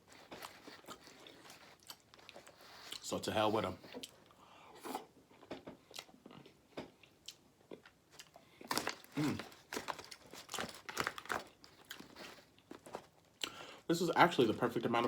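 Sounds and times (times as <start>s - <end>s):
person chewing food: 0.0s - 3.1s, 3.8s - 13.6s.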